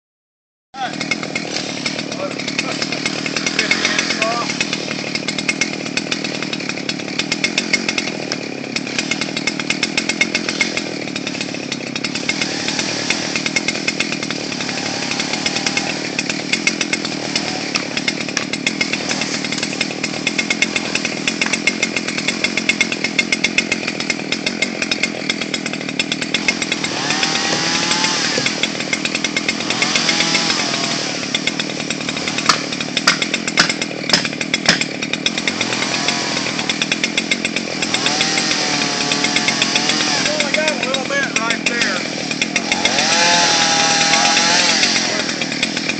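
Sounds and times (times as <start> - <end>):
chainsaw cutting wood: 0.8 - 45.9.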